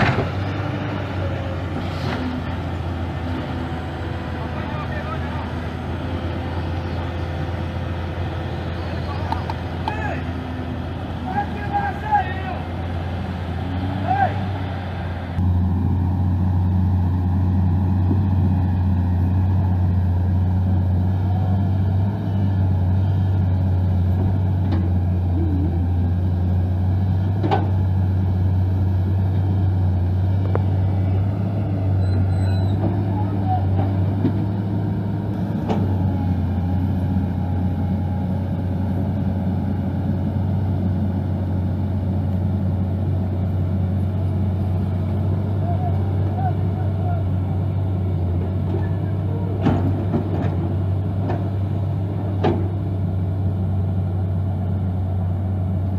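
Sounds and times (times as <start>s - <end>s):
heavy vehicle engine droning: 0.0s - 55.9s.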